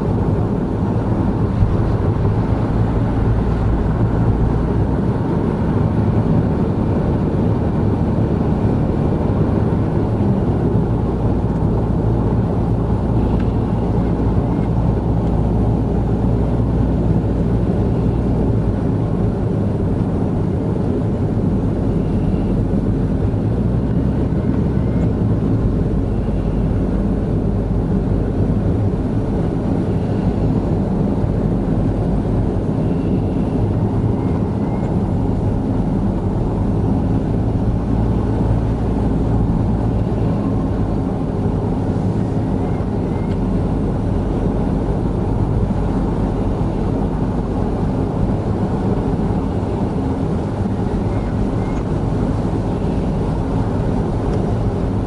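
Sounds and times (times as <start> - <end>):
car engine cruising drone: 0.0 - 55.0
tyres on damp road: 0.0 - 55.0.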